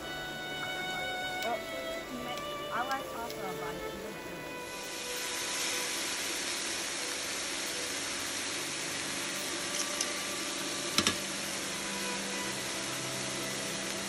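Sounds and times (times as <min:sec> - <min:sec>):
meat sizzling on grill pan: 0:00.0 - 0:14.0.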